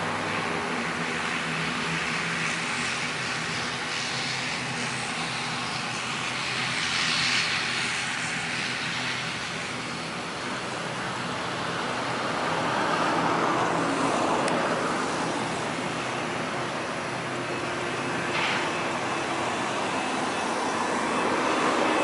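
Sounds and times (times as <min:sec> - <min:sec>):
turboprop engines droning: 0:00.0 - 0:22.0.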